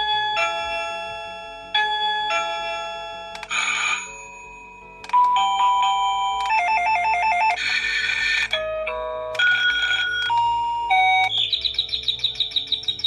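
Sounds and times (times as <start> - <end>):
doorbell electronic chime tune: 0.0 - 11.4.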